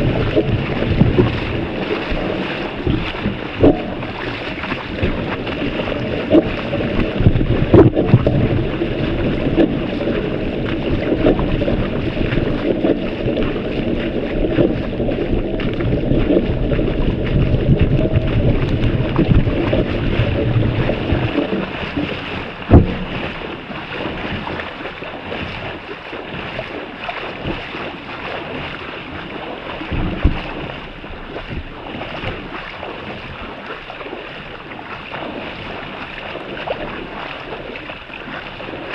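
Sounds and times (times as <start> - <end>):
legs sloshing through water: 0.0 - 38.9
wind on microphone: 0.0 - 38.9.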